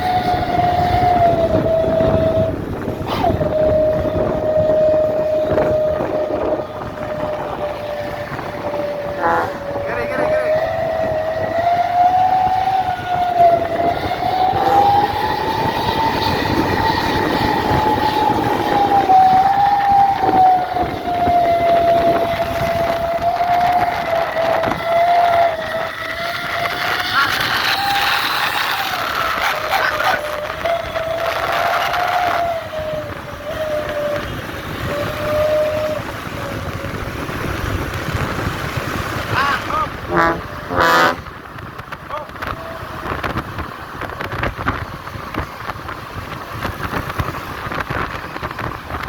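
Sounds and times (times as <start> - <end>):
wavering bus horn: 0.0 - 41.6
traffic and engine rumble: 0.0 - 49.0
vehicle road and wind noise: 0.0 - 49.0.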